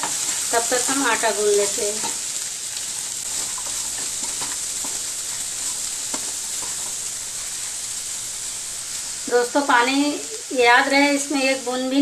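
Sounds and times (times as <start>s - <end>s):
peas sizzling in oil: 0.0s - 12.0s.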